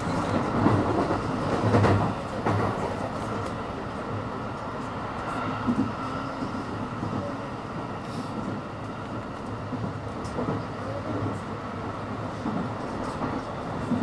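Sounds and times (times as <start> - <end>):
electric train rumbling slowly: 0.0 - 14.0.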